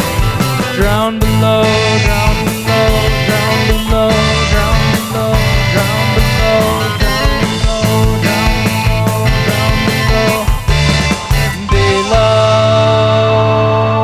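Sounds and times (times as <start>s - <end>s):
instrumental rock music: 0.0s - 14.0s.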